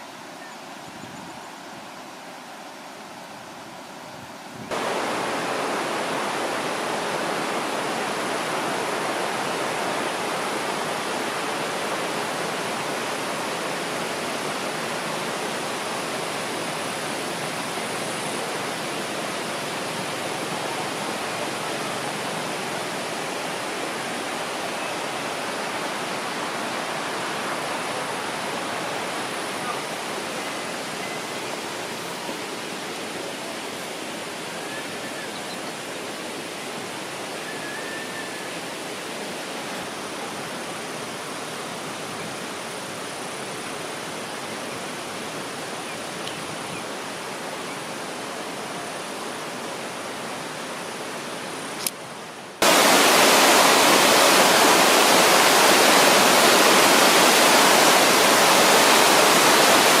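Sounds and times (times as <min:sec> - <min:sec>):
running water rushing: 0:00.0 - 1:00.0.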